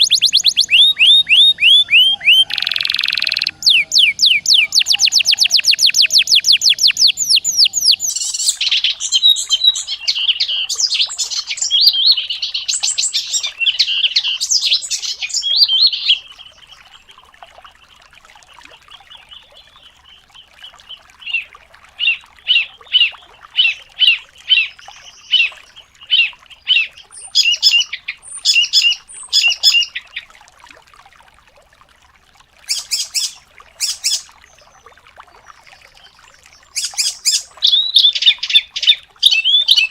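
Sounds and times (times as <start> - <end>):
songbird singing: 0.0 - 17.1, 17.8 - 30.3, 32.7 - 39.9.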